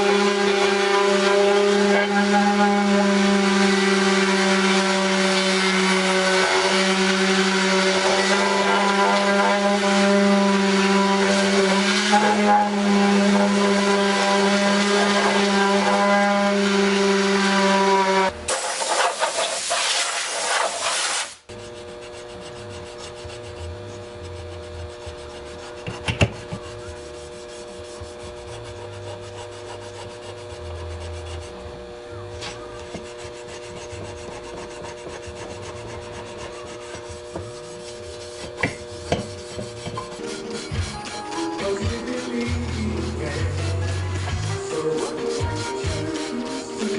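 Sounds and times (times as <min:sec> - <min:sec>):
abrasive scraping on metal: 0:00.0 - 0:18.3, 0:21.5 - 0:46.9
power tool humming: 0:00.0 - 0:46.9.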